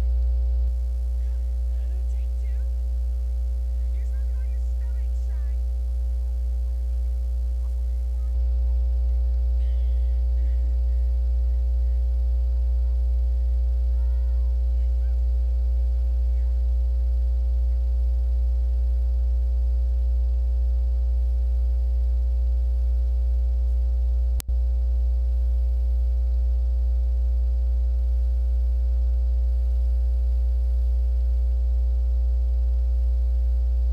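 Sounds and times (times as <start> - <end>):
deep electrical hum: 0.0 - 33.9
faint steady higher tones: 0.0 - 33.9.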